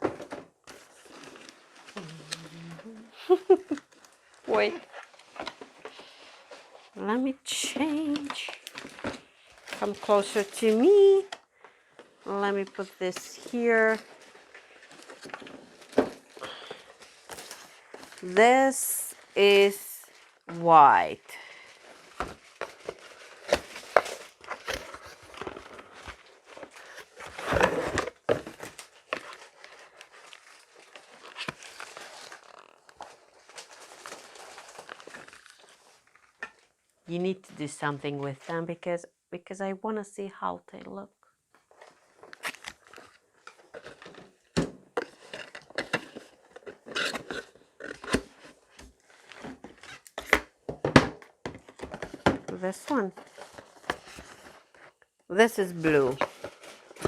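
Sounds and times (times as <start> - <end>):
plastic rustling: 0.0 - 36.9, 41.6 - 57.0
plastic wrapping crinkling: 0.0 - 37.0, 41.6 - 50.7, 55.7 - 57.0.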